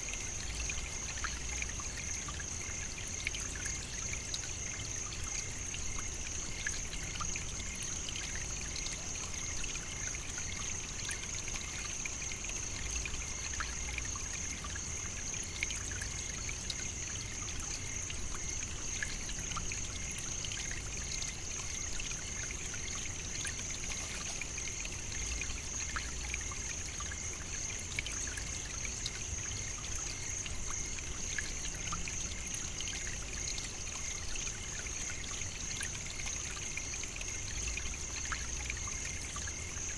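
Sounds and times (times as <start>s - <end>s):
trickling hiss: 0.0s - 39.9s.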